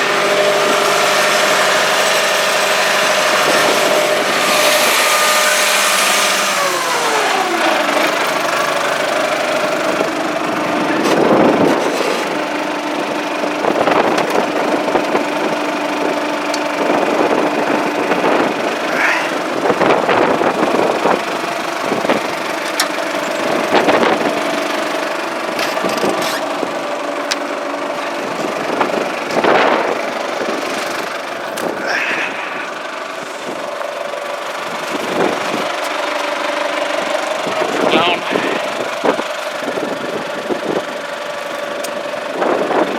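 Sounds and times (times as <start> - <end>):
tractor diesel engine idling: 0.0 - 42.9.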